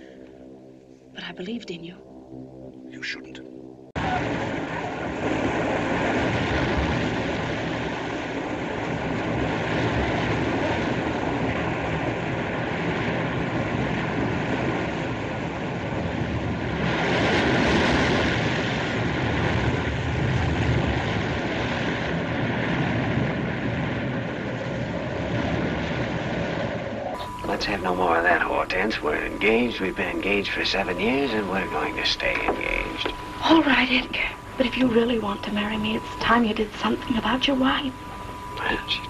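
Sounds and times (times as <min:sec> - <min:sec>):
sea waves and rushing water: 0:04.0 - 0:39.0.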